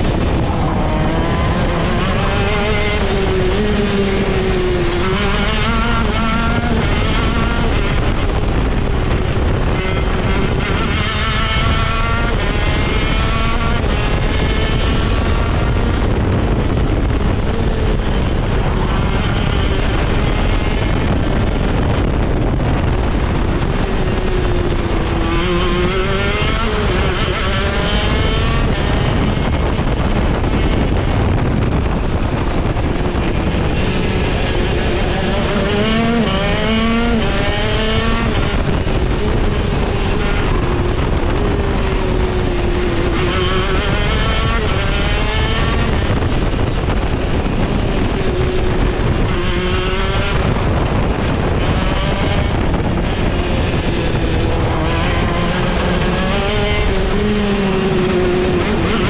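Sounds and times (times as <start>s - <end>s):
go-kart engine accelerating: 0.0s - 59.0s
steady rushing noise: 0.0s - 59.0s.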